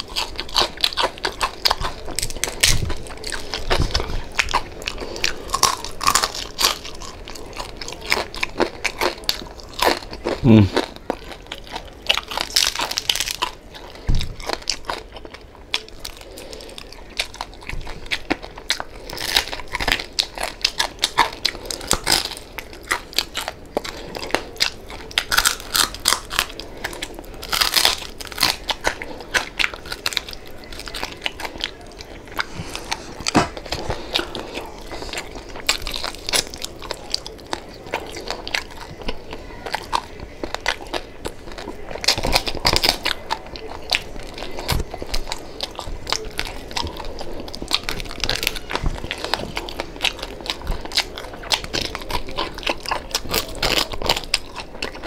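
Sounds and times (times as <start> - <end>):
crunchy chewing and biting: 0.0 - 55.0.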